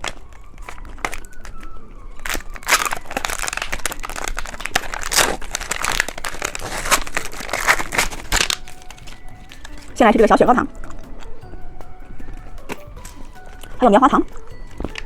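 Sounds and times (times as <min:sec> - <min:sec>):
plastic candy wrapper crinkling: 0:00.0 - 0:15.0.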